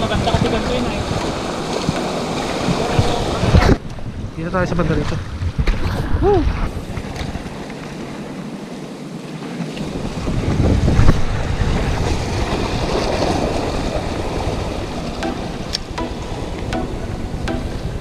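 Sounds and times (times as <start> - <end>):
surf washing against rocks: 0.0 - 5.7, 6.7 - 16.9
wind buffeting microphone: 0.0 - 8.7, 9.6 - 18.0.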